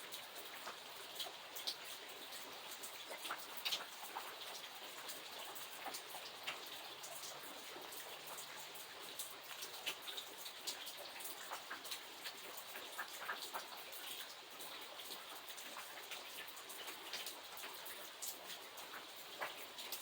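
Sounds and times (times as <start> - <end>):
raindrops ticking on a surface: 0.0 - 20.0.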